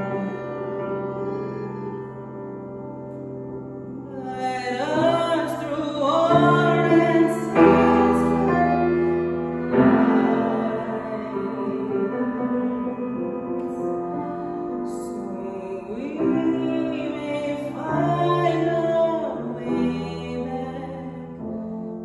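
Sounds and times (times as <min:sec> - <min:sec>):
grand piano chords: 0:00.0 - 0:22.0
woman singing: 0:00.0 - 0:22.0.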